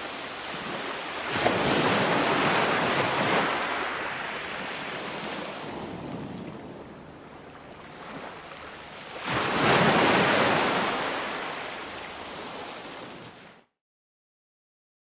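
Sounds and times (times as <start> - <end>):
ocean wave breaking: 0.0 - 13.5.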